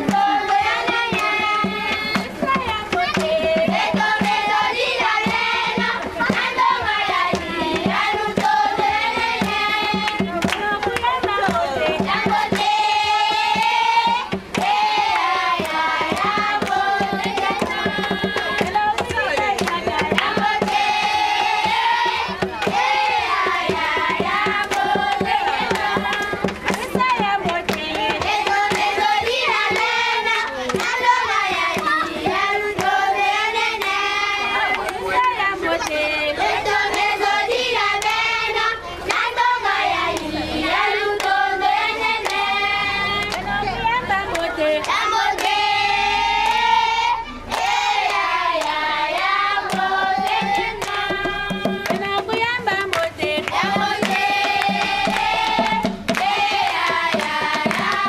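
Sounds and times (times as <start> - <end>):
hand-clapping: 0.0 - 45.8, 46.4 - 46.7, 47.4 - 58.0
children and women singing: 0.0 - 58.0.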